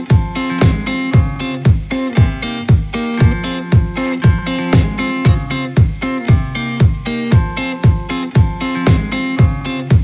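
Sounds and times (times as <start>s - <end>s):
plucked strings over a beat: 0.0s - 10.0s.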